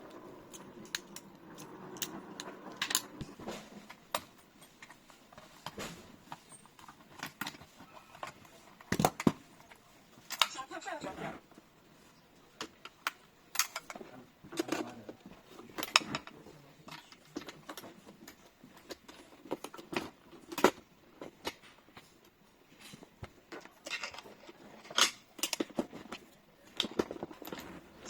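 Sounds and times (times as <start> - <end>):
clicks and knocks of lock parts: 0.1 - 10.6, 12.6 - 28.0.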